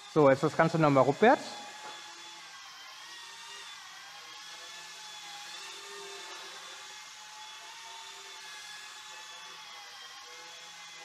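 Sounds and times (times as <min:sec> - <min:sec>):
rc helicopter whirring whine: 0:00.0 - 0:11.0.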